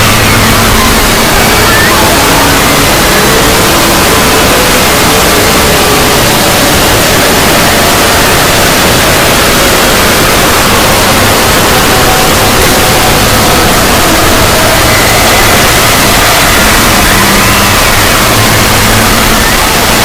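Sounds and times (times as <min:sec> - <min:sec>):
loud static noise hiss: 0:00.0 - 0:20.0.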